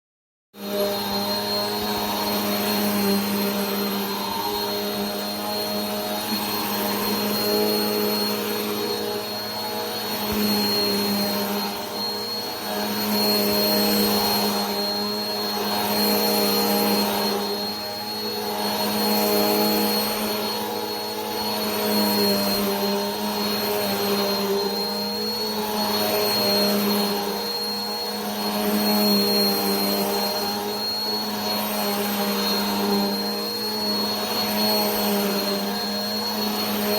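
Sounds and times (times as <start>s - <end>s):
vacuum cleaner running: 0.6s - 36.9s.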